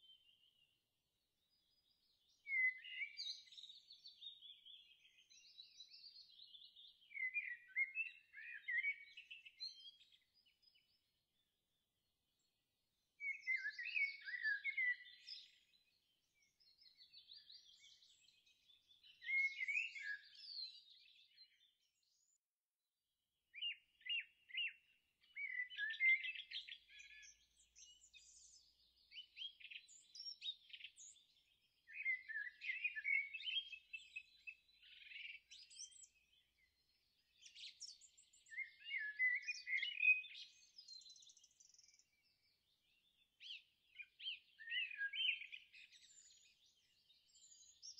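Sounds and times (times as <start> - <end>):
songbirds chirping and warbling: 0.0 - 22.6, 23.5 - 47.9.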